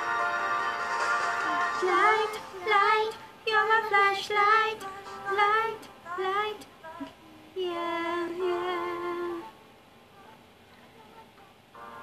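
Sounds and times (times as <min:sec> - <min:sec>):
pop song: 0:00.0 - 0:12.0
child and woman singing: 0:01.4 - 0:11.8.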